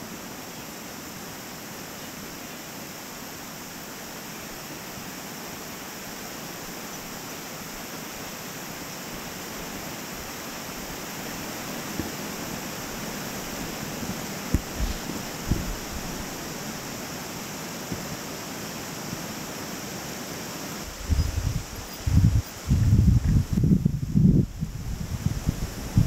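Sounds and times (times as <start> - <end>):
water rushing: 0.0 - 23.7.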